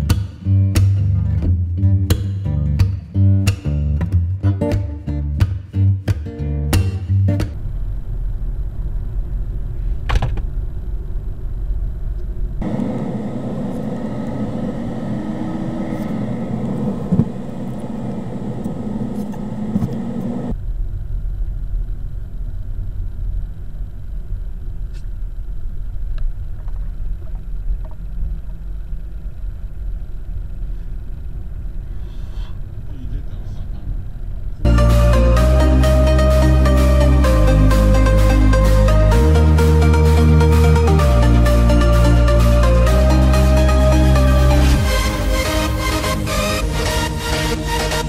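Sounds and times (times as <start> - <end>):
road and engine rumble: 7.4 - 48.0.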